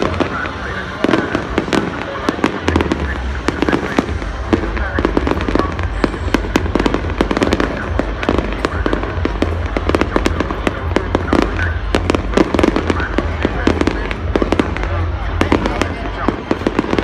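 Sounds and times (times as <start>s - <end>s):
fireworks bangs and pops: 0.0s - 17.0s
low rumble: 2.7s - 17.0s.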